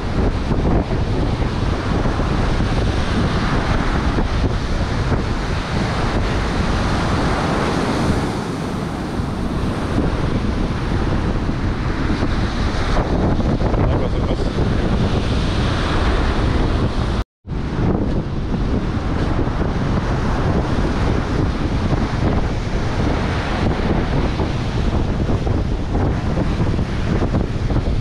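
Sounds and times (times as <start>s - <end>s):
heavy surf breaking: 0.0s - 28.0s
wind buffeting microphone: 0.0s - 28.0s.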